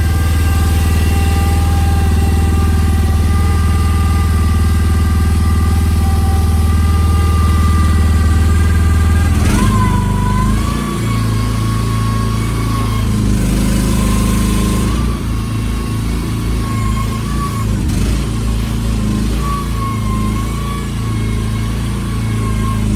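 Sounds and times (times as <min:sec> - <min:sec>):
mini excavator engine running: 0:00.0 - 0:22.9
wavering hydraulic whine: 0:00.0 - 0:22.9.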